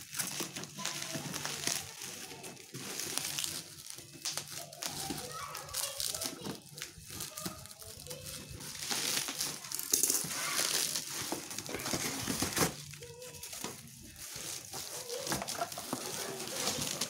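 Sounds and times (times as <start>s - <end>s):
bubble wrap and cardboard crinkling: 0.0s - 17.0s.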